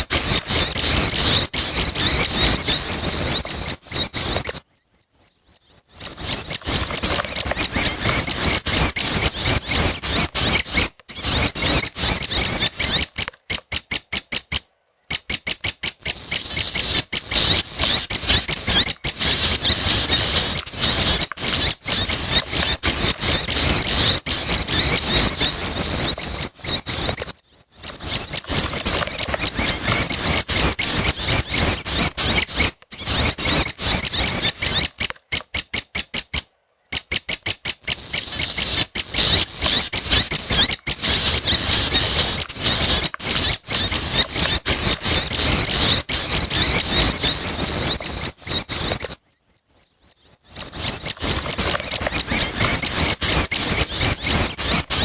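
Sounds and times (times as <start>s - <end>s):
songbird chirping: 0.0s - 54.9s.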